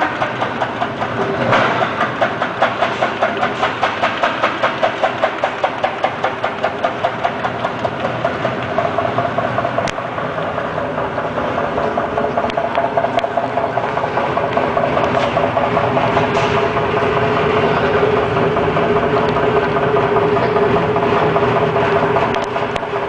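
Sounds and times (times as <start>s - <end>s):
slicing machine motor clattering: 0.0s - 23.0s.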